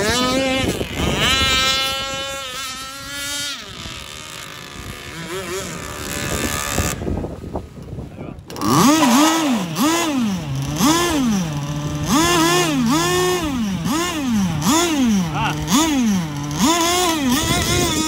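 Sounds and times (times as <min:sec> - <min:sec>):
two-stroke boat engine revving: 0:00.0 - 0:18.0.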